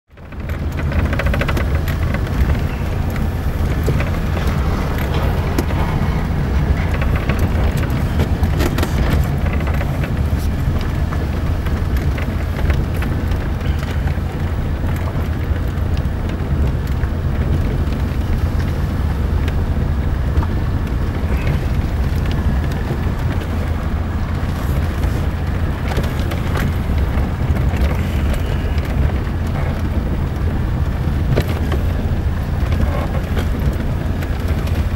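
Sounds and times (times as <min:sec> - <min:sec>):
car road rumble: 0:00.1 - 0:34.9
knocks and rattles from bumps: 0:00.1 - 0:34.9.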